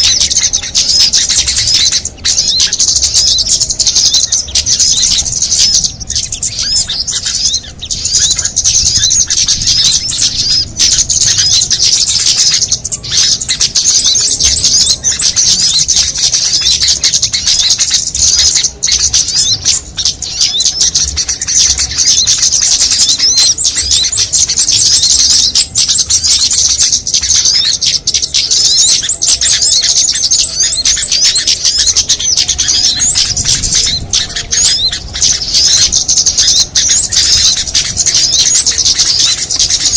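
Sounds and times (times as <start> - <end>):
small songbirds chirping and trilling: 0.0 - 39.9.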